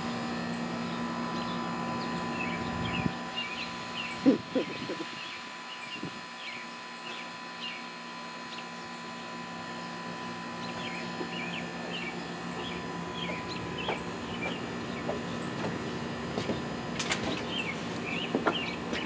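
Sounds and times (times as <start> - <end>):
steady low hum: 0.0 - 19.0
small birds chirping: 0.8 - 9.2, 9.8 - 15.6, 17.3 - 19.0.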